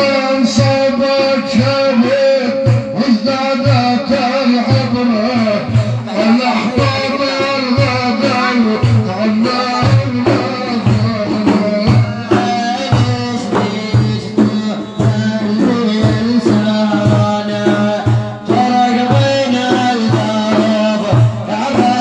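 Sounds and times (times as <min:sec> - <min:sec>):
steady drum rhythm: 0:00.0 - 0:22.0.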